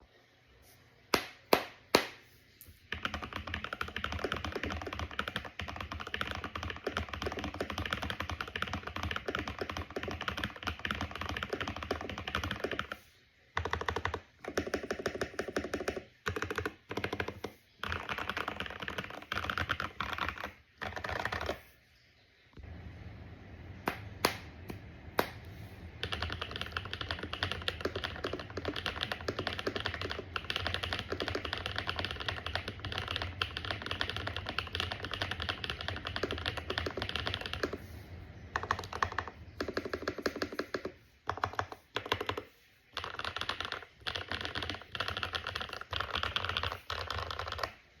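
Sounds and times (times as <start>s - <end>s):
mechanical keyboard typing: 2.9s - 13.0s, 13.6s - 21.6s, 26.0s - 37.9s, 38.5s - 47.8s.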